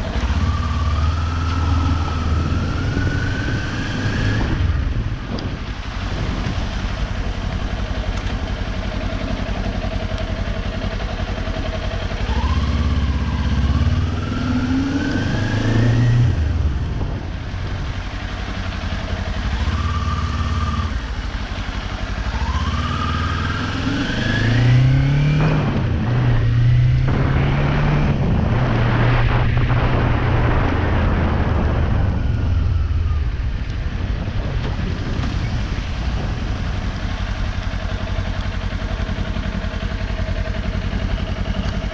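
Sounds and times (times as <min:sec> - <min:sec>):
motorcycle engine revving through gears: 0:00.0 - 0:41.9.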